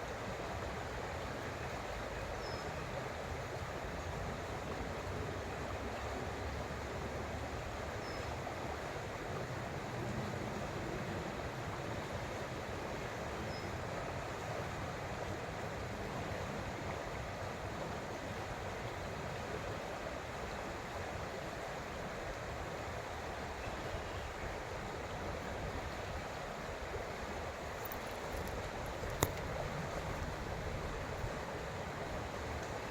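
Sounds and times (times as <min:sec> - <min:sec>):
creek water flowing over rocks: 0:00.0 - 0:32.9.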